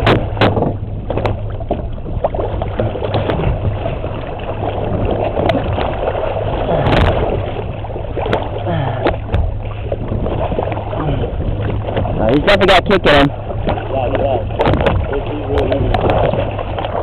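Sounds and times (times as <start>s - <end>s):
steady low hum: 0.0s - 17.0s
water splashing and sloshing: 0.0s - 17.0s.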